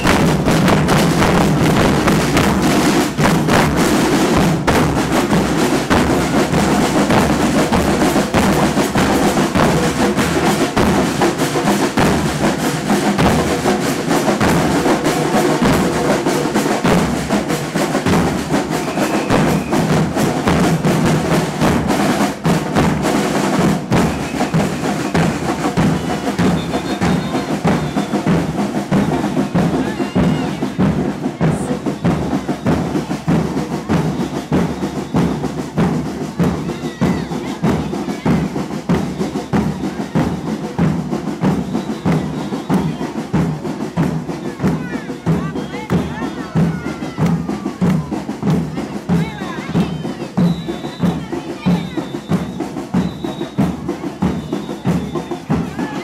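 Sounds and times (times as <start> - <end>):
drum troupe playing: 0.0 - 56.0.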